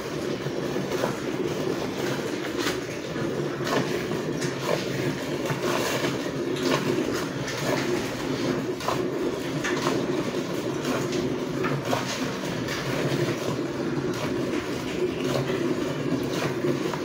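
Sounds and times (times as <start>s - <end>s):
milk squirting into bucket: 0.1s - 17.0s.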